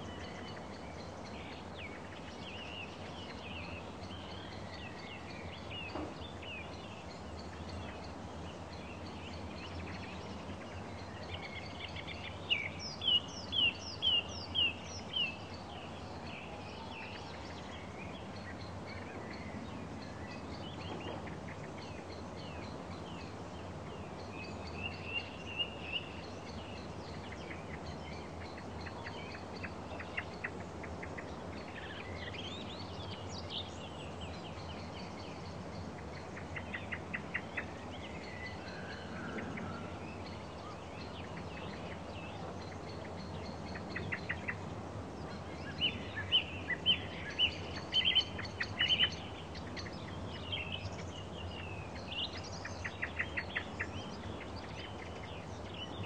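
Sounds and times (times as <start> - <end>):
small songbirds singing: 0.0 - 56.0
steady background hiss: 0.0 - 56.0.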